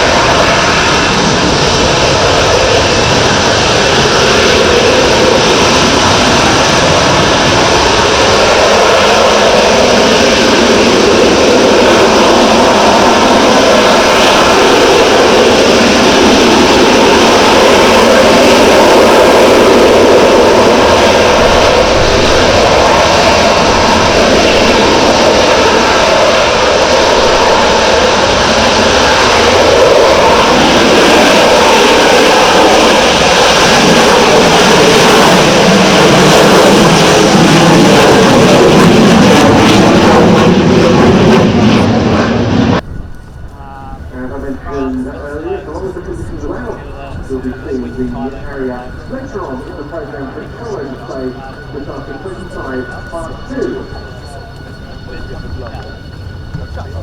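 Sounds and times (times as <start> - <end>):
jet engine noise: 0.0 - 57.0.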